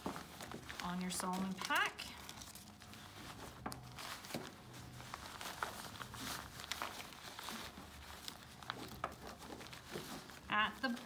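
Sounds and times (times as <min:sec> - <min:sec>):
fabric rustling: 0:00.0 - 0:11.0
soft plastic crinkling: 0:00.0 - 0:11.0.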